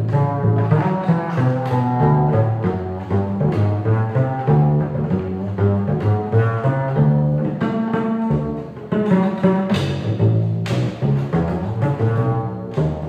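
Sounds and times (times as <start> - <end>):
plucked double bass groove: 0.0 - 13.0.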